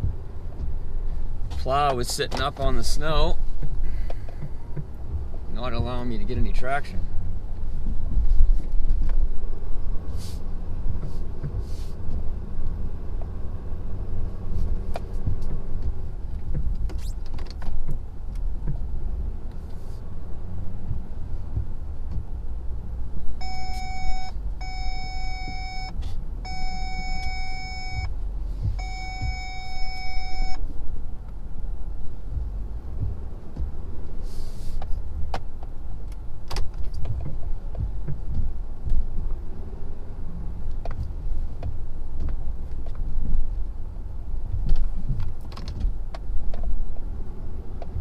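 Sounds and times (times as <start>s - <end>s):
diesel truck engine rumble: 0.0s - 48.0s.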